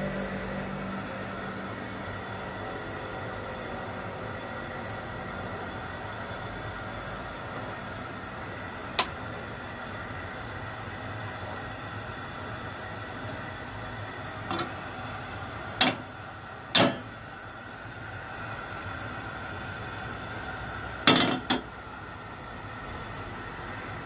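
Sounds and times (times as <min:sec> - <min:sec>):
gas stove burner hissing: 0:00.5 - 0:24.0.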